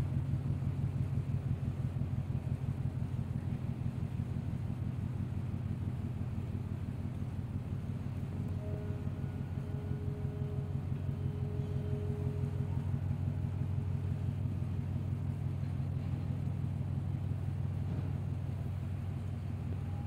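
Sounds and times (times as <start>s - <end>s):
faint high hum: 0.0s - 20.0s
ship engine rumble: 0.0s - 20.0s.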